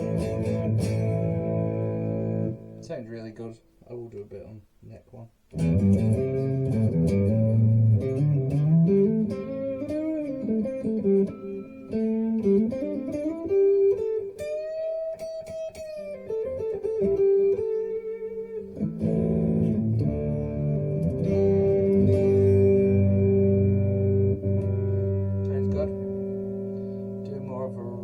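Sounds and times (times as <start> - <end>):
electric guitar lead with overdrive: 0.0 - 2.8, 5.5 - 28.0.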